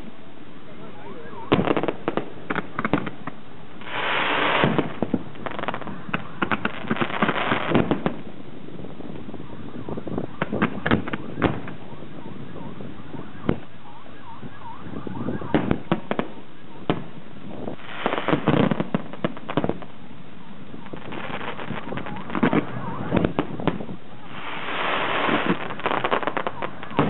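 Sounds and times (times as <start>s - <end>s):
fireworks crackling: 0.0s - 13.8s, 15.5s - 27.0s
fireworks bangs: 1.4s - 8.4s, 9.0s - 13.7s, 15.2s - 20.0s, 20.8s - 27.0s.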